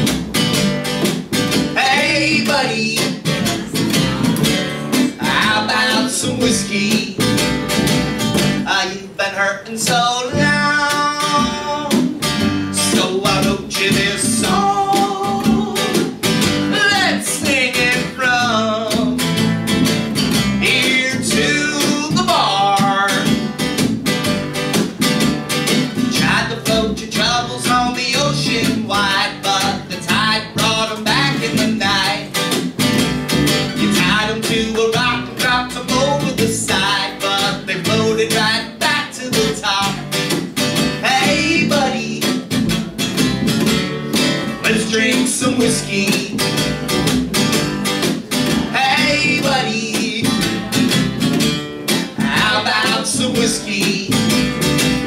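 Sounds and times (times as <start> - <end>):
acoustic guitar strumming: 0.0 - 55.0
upright double bass: 0.0 - 55.0.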